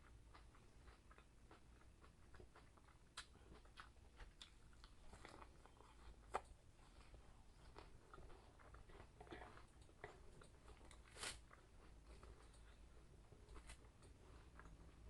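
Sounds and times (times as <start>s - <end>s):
person chewing quietly: 0.0s - 15.0s.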